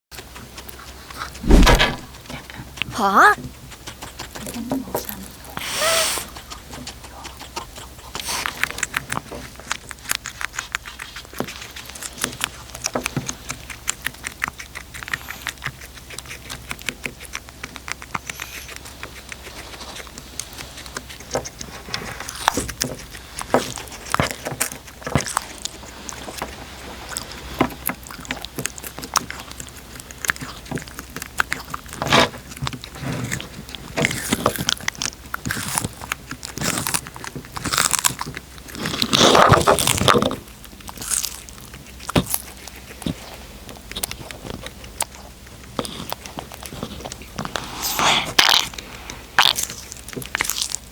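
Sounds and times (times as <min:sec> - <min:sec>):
cat chewing and licking: 0:00.1 - 0:50.9
crunches of cat eating: 0:00.1 - 0:50.9.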